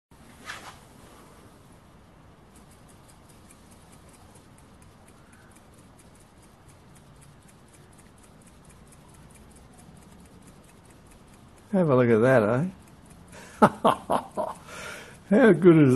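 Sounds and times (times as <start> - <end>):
model steam engine ticking: 2.5 - 15.9.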